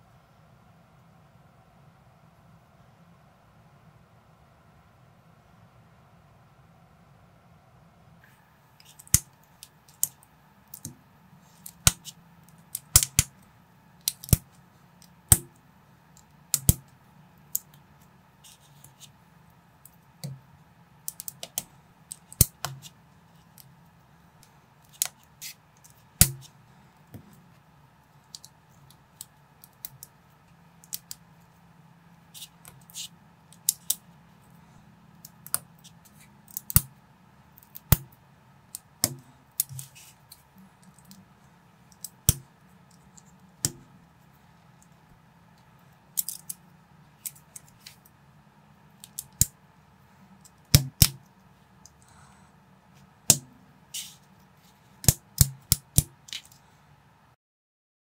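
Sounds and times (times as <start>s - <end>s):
faint steady hum: 0.0s - 57.4s.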